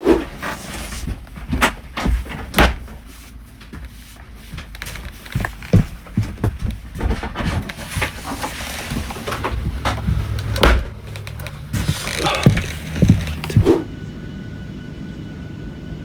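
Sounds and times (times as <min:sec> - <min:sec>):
dull thumps and clicks: 0:00.9 - 0:13.9.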